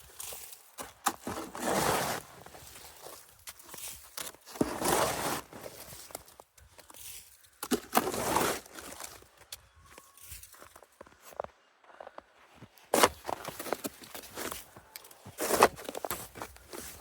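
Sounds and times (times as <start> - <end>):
crusty snow crunching: 0.0 - 9.3, 10.0 - 17.0
snow clicks and crackles: 0.0 - 11.3, 12.6 - 17.0.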